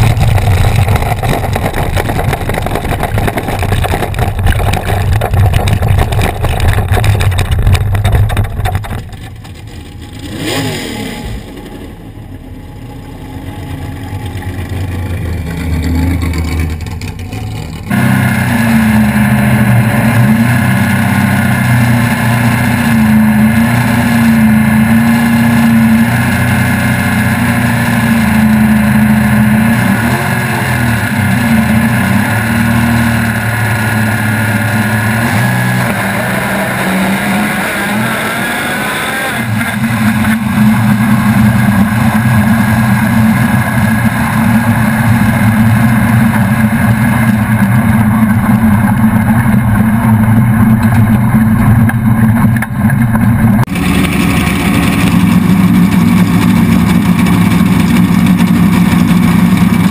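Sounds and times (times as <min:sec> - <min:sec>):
car engine droning at low revs: 0:00.0 - 0:59.9.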